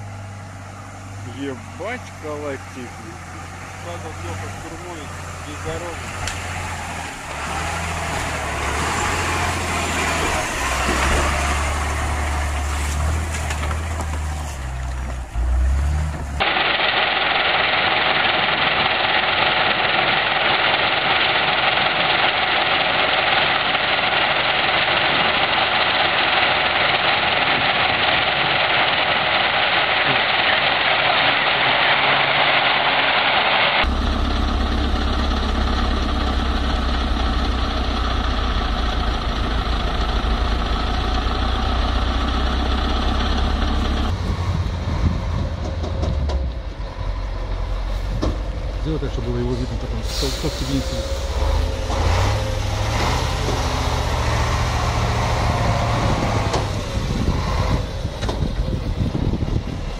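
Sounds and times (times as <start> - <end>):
deep diesel truck engine rumble: 0.0 - 59.9
diesel engine idling: 0.0 - 59.9
loud even engine noise: 0.0 - 59.9.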